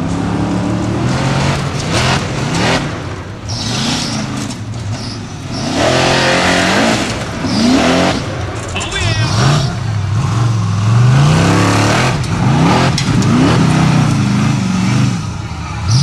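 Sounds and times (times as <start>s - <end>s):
buggy engine revving hard: 0.0s - 16.0s.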